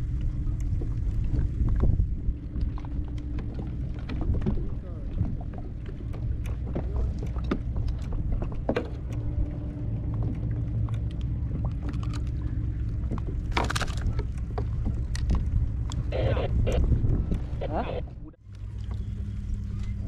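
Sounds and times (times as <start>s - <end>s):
open water rumble: 0.0s - 20.0s.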